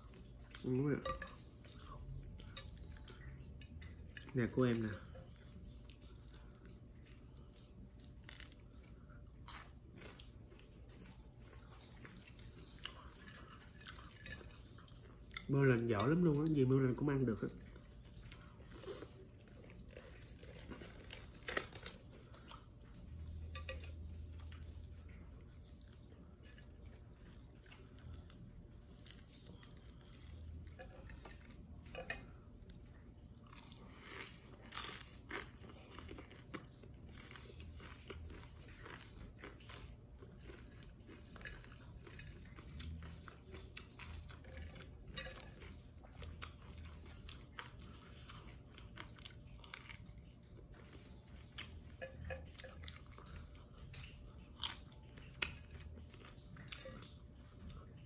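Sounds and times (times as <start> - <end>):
crunching and chewing fried food: 0.0 - 58.0.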